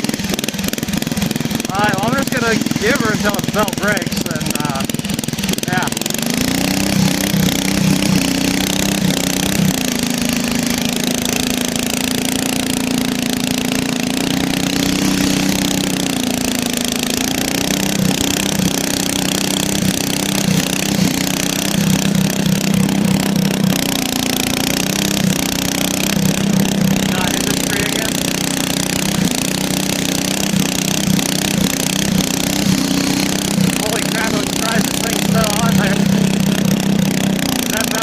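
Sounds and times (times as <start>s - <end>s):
riding lawnmower engine running: 0.0s - 38.0s.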